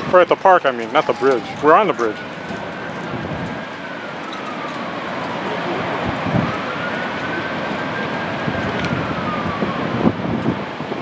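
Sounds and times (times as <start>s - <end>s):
city noise: 0.0s - 11.0s
faint siren wailing: 0.0s - 11.0s
wind on microphone: 0.0s - 11.0s.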